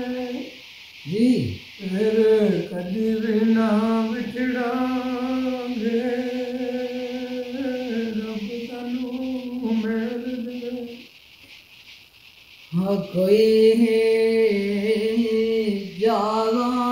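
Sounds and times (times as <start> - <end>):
man singing unaccompanied: 0.0 - 11.1, 12.7 - 16.9.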